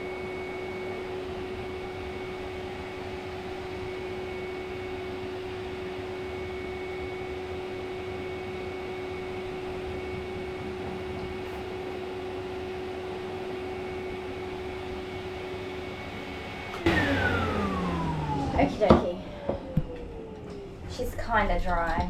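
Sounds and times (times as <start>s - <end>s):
pet dryer blowing air: 0.0s - 21.5s.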